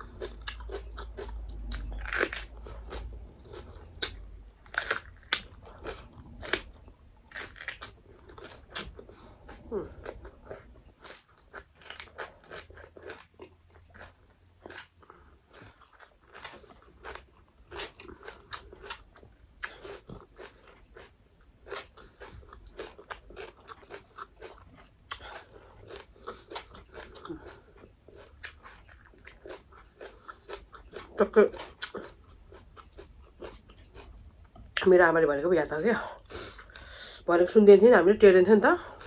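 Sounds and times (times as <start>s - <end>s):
crunching and chewing fried fish: 0.0s - 34.9s.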